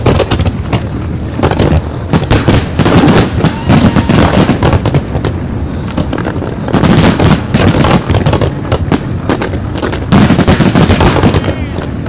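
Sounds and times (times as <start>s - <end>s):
fireworks bangs and crackles: 0.0s - 12.0s
low fireworks booms: 0.0s - 12.0s.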